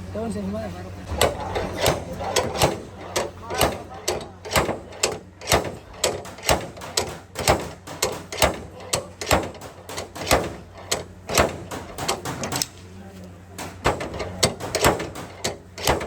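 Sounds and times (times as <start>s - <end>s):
hammer striking sheet metal: 1.1s - 12.8s, 13.5s - 16.0s.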